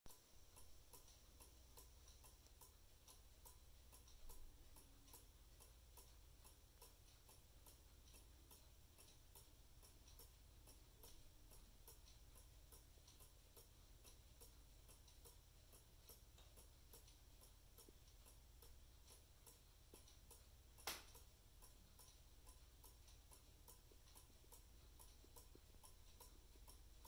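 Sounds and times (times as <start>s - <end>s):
clock ticking: 0.1s - 27.0s.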